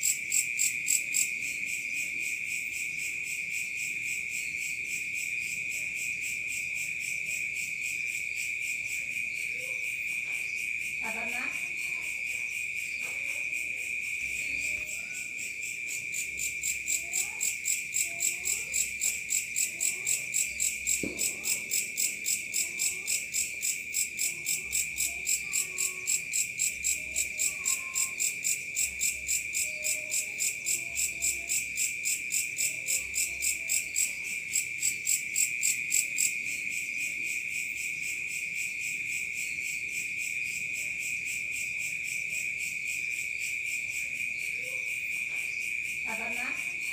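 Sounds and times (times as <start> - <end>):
fast pulsing insect chirp: 0.0 - 46.9.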